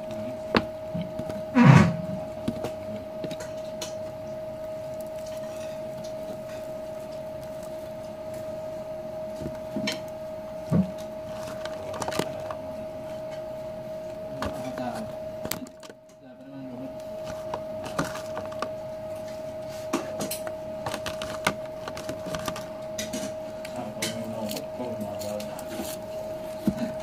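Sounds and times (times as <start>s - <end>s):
high-pitched hum: 0.0s - 27.0s.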